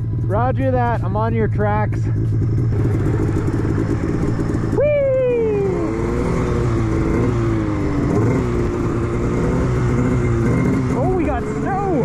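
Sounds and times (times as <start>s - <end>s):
snowmobile engine: 0.0s - 12.0s.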